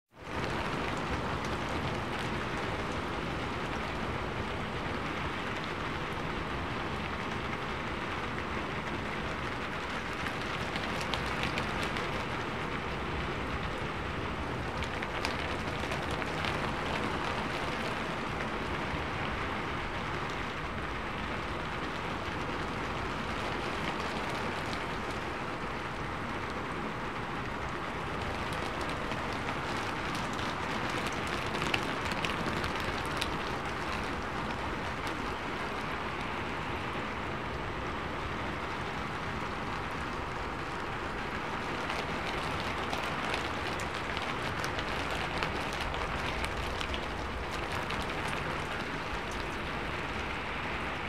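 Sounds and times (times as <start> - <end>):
rain on a rooftop: 0.0 - 51.0.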